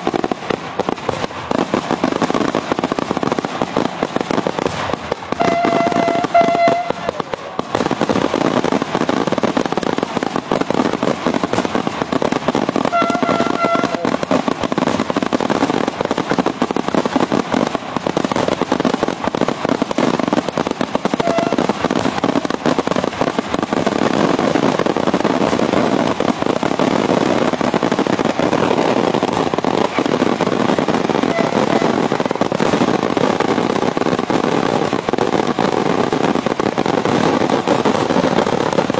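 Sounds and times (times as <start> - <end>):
rapid firecracker bangs: 0.0 - 38.9.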